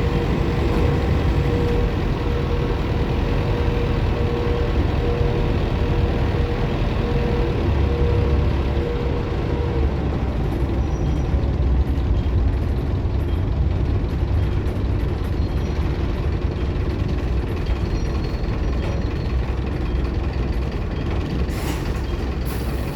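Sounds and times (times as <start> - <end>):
bus engine and road rumble: 0.0 - 22.9.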